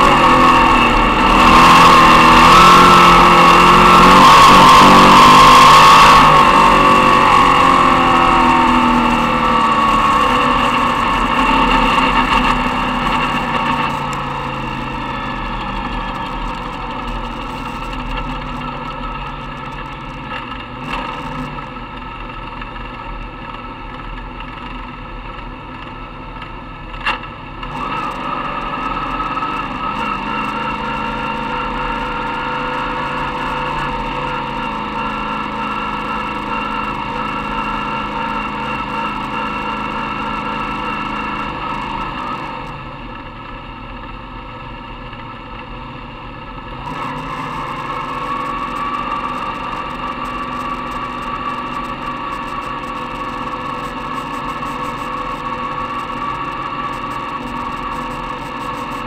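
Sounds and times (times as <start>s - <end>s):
race car engine running: 0.0s - 59.0s.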